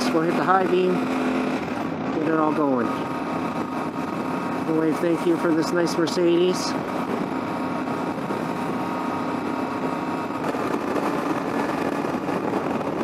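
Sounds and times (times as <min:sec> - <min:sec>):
motorcycle engine running: 0:00.0 - 0:13.0
wind noise on microphone: 0:00.8 - 0:13.0.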